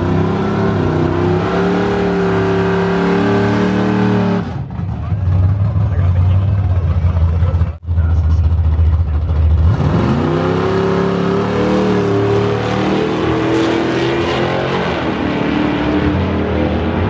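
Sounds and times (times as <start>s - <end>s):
racing car engine revving: 0.0s - 17.0s.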